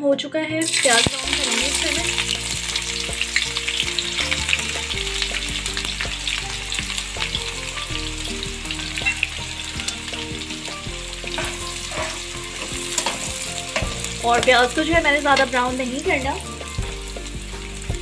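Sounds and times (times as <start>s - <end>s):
onions sizzling in hot oil: 0.6s - 18.0s.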